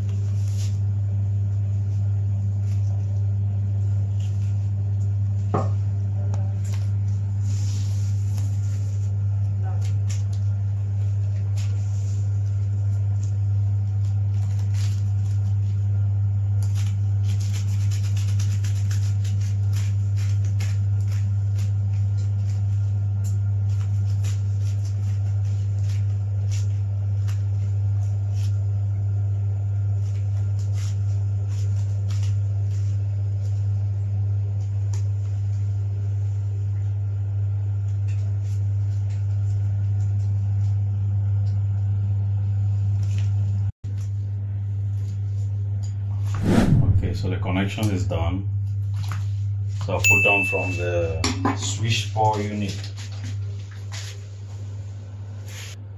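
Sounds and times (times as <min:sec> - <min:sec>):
steady low hum: 0:00.0 - 0:37.2, 0:41.9 - 0:51.3.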